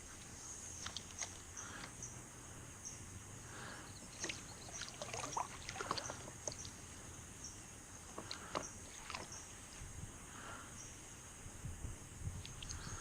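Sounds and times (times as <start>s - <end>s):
faint high hiss: 0.0s - 13.0s
small water sounds: 0.0s - 13.0s.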